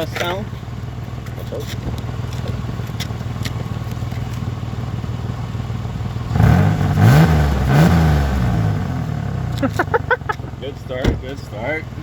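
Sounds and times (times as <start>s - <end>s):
pickup engine idling and revving: 0.0s - 12.0s.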